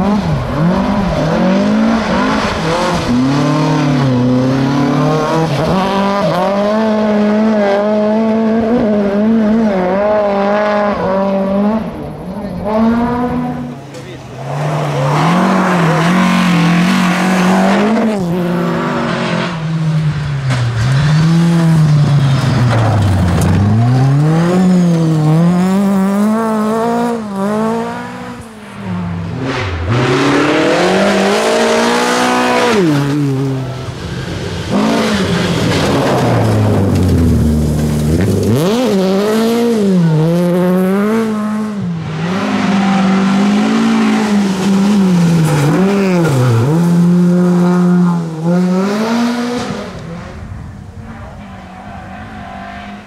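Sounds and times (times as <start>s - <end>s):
rally car engine revving: 0.0s - 53.0s.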